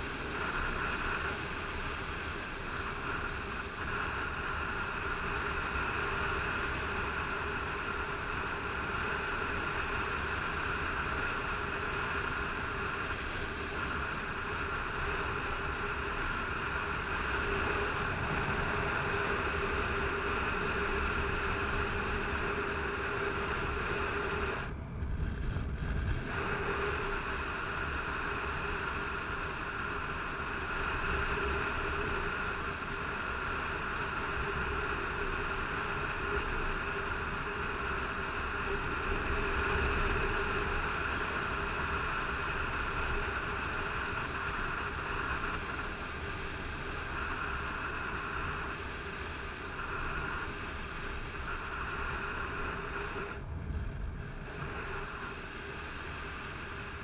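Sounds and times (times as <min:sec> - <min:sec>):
motorcycle engine drone: 0:00.0 - 0:57.0.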